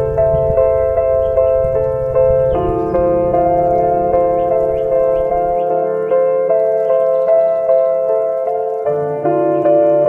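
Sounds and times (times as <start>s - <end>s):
slow solo piano melody: 0.0s - 10.0s.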